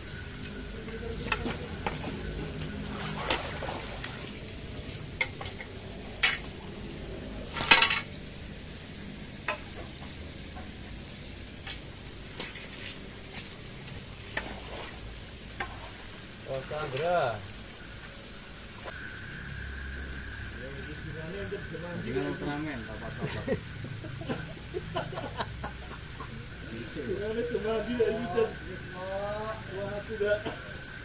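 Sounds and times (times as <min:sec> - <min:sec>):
water splashing: 0:00.0 - 0:08.2, 0:12.1 - 0:31.0.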